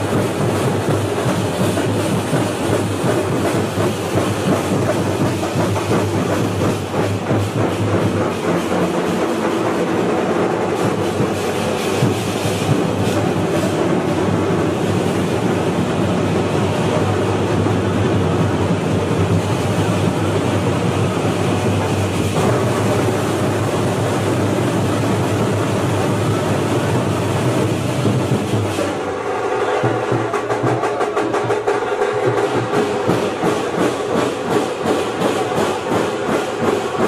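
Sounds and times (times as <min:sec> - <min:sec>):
crowd noise: 0:00.0 - 0:37.0
fast dense drum beats: 0:00.0 - 0:37.0.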